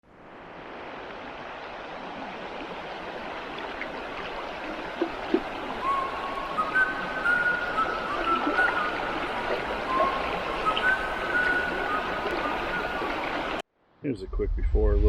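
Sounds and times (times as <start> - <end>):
flowing water rushing: 0.0 - 13.6.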